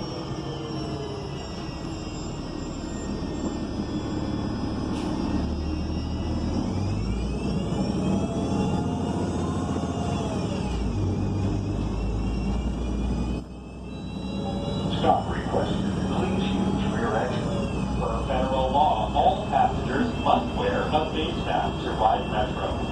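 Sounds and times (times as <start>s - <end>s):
bus engine rumble: 0.0s - 22.9s
high drivetrain whine: 0.0s - 22.9s.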